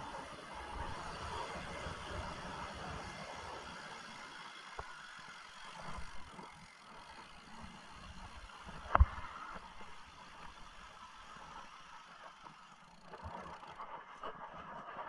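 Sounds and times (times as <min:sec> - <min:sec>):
bike tyres rumbling on trail: 0:00.0 - 0:15.0.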